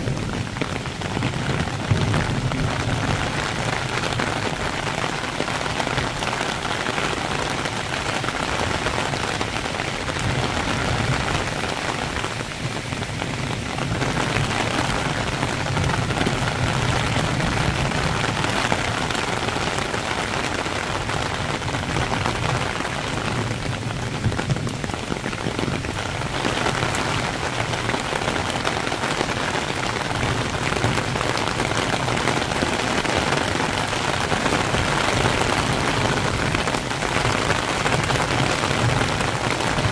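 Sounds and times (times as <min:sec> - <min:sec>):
rain pattering on foliage: 0:00.0 - 0:39.9.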